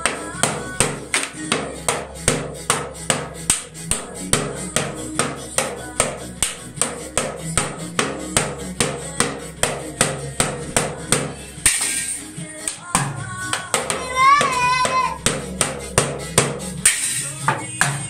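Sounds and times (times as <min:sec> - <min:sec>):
drum-heavy music: 0:00.0 - 0:18.0
toy drum and cymbal hits: 0:00.0 - 0:18.0.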